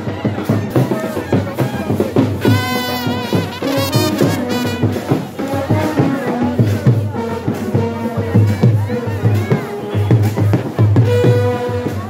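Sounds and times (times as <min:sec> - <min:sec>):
music with steady drum beat: 0:00.0 - 0:12.0.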